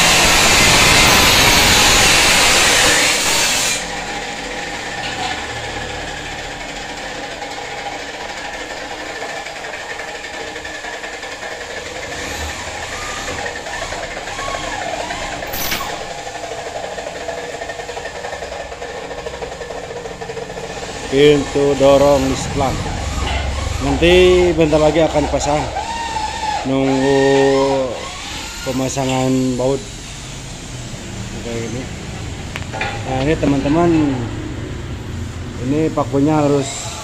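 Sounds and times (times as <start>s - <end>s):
power tool running: 0.0s - 37.0s.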